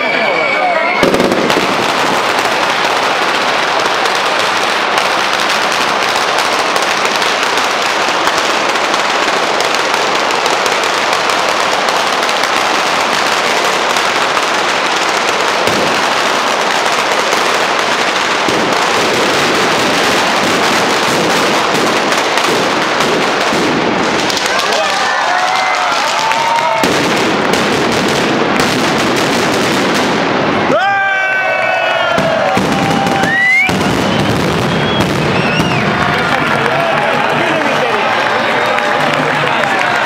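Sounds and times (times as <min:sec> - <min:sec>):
firecrackers crackling: 0:00.0 - 0:40.0.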